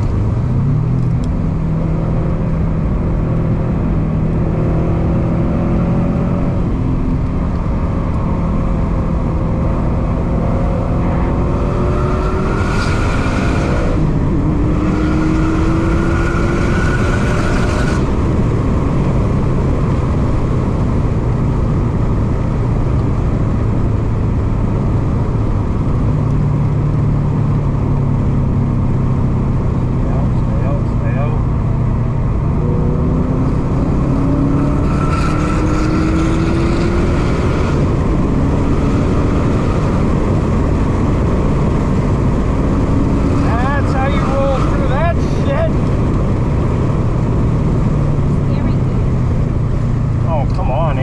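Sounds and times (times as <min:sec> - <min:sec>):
car engine accelerating: 0:00.0 - 0:51.0
road noise: 0:00.0 - 0:51.0.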